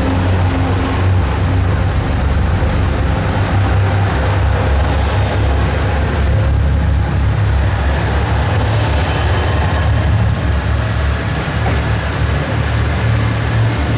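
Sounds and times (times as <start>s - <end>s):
diesel train engine rumble: 0.0s - 13.9s
train wheels running noise: 0.0s - 13.9s.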